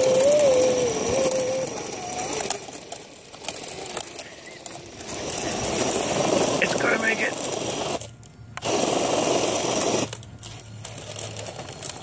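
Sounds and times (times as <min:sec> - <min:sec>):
electric motor whining: 0:00.0 - 0:03.0, 0:03.7 - 0:11.0.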